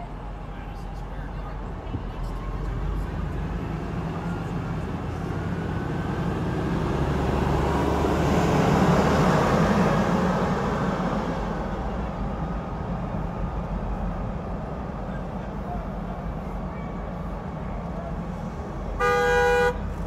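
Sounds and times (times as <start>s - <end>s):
bus passing: 0.0s - 20.0s
street traffic rumble: 0.0s - 20.0s.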